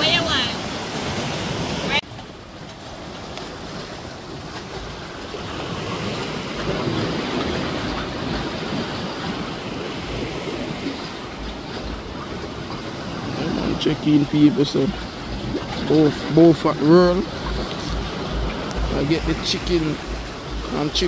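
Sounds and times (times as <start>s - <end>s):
sea washing against rocks: 0.0s - 21.0s
wind buffeting microphone: 2.9s - 21.0s.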